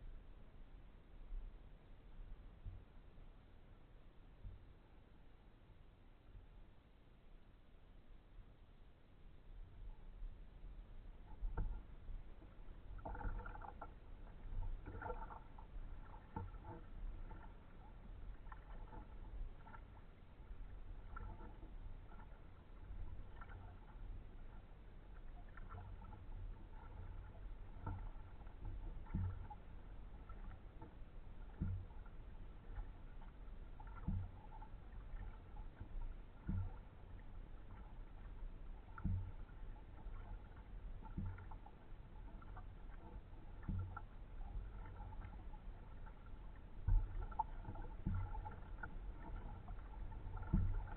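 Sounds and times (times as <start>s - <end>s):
paddle dipping and dripping water: 0.0s - 50.9s.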